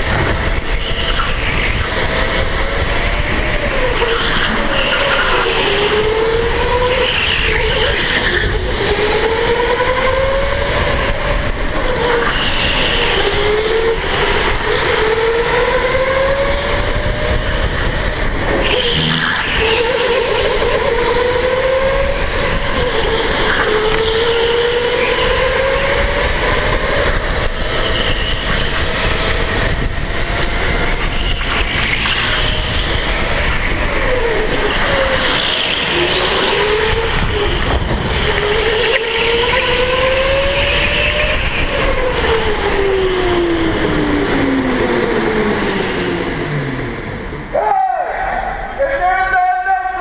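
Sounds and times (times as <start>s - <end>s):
electric go-kart motor whining: 0.0s - 47.6s
kart noise on track: 0.0s - 50.0s.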